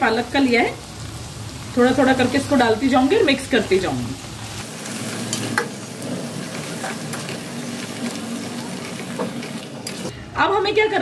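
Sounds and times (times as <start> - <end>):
vegetables sizzling in oil: 0.0 - 10.1.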